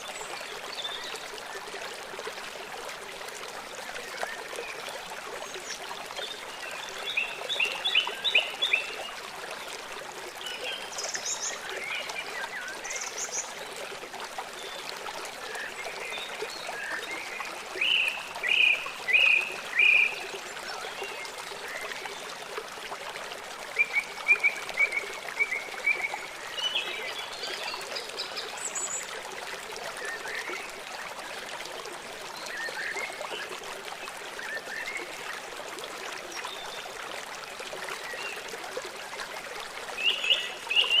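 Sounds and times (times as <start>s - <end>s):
running water: 0.0s - 41.0s.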